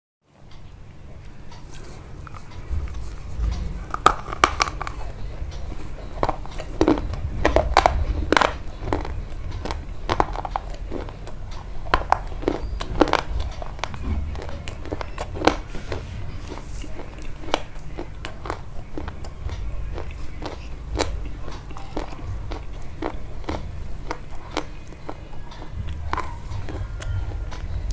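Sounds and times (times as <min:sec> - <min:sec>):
steady low rumble: 0:00.5 - 0:27.9
crunchy bites and chewing: 0:01.7 - 0:27.9.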